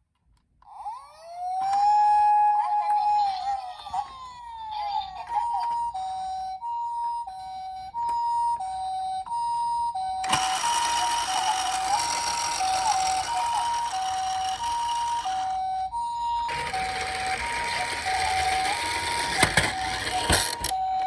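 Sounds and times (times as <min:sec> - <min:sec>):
toy siren two-tone call: 0:00.7 - 0:21.0.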